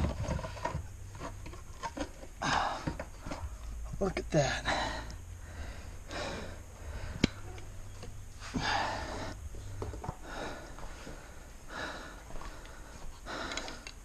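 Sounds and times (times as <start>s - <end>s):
steady low hum: 0.0s - 14.0s
man breathing heavily: 2.4s - 14.0s.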